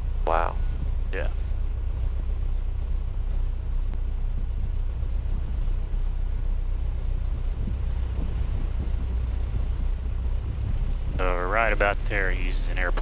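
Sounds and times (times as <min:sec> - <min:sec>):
light aircraft engine idling: 0:00.0 - 0:13.0.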